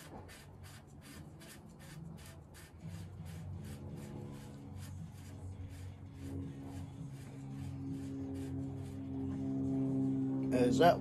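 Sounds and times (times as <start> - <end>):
soft rasping strokes: 0.0 - 9.8
steady low hum: 0.0 - 11.0.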